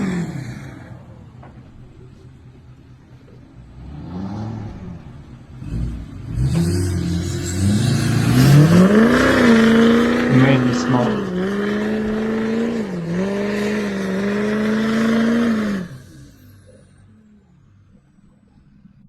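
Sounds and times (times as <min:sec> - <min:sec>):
truck engine revving: 0:00.0 - 0:18.1.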